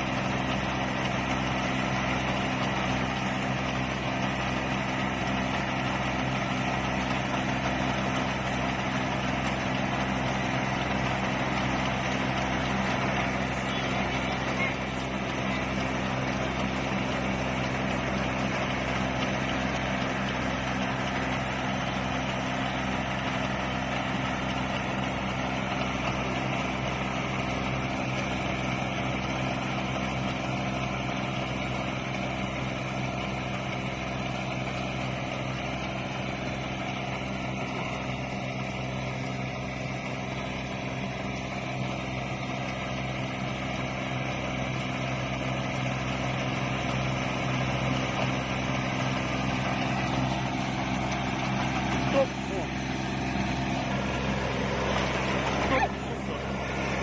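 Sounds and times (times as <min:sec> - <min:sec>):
harvester engine droning: 0:00.0 - 0:57.0.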